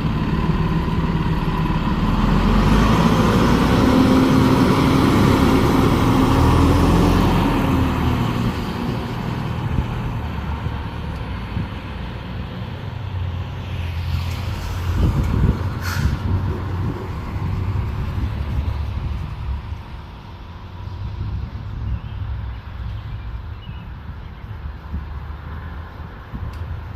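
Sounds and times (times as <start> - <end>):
fire truck engine rumbling: 0.0 - 26.9.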